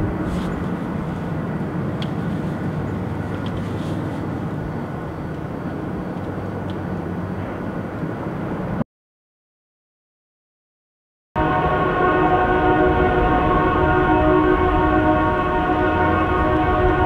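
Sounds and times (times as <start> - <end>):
heavy diesel machinery drone: 0.0 - 8.8, 11.4 - 17.0.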